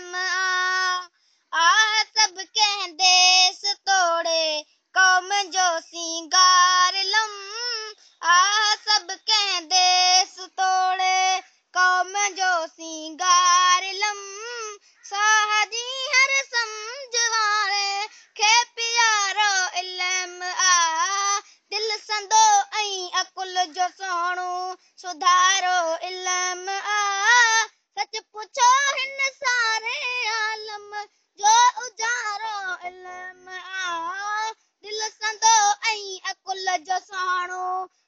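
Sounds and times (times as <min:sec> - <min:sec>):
child chanting a poem: 0:00.0 - 0:37.9.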